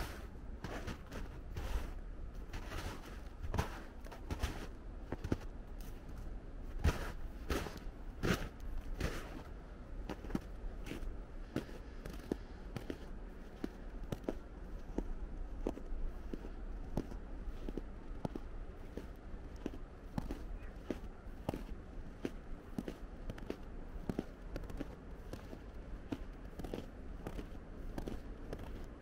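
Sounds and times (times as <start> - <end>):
faint snow crackles: 0.0 - 29.0
footsteps crunching in snow: 0.0 - 29.0.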